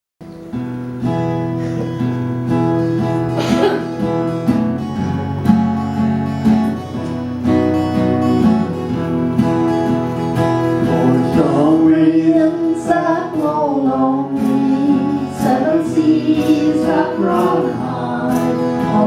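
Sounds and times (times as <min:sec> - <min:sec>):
acoustic guitar strumming chords: 0:00.2 - 0:19.0.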